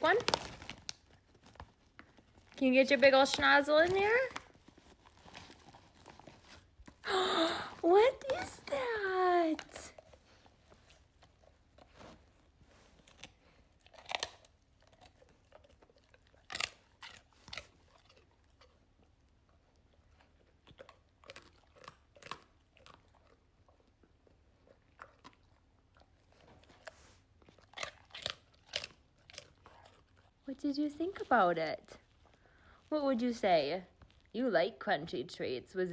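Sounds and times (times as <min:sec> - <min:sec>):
dog chewing crunchy treat: 0:00.0 - 0:07.0, 0:08.2 - 0:31.4.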